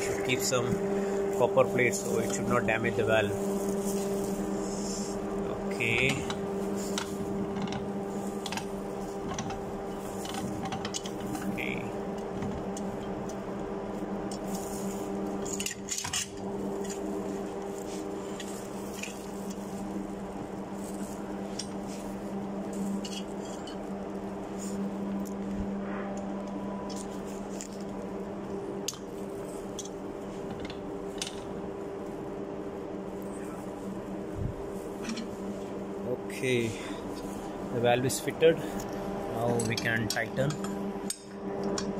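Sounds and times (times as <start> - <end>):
machinery hum: 0.0 - 41.9.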